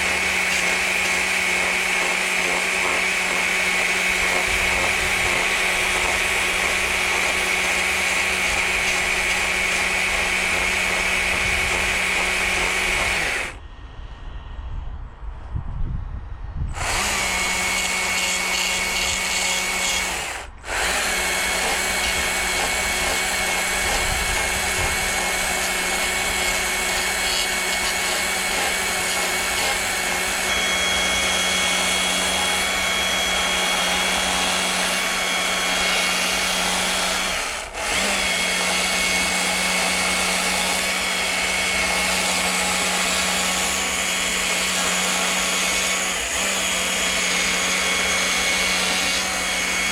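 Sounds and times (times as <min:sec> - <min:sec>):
power tool carving wood: 0:00.0 - 0:13.6, 0:16.8 - 0:49.9.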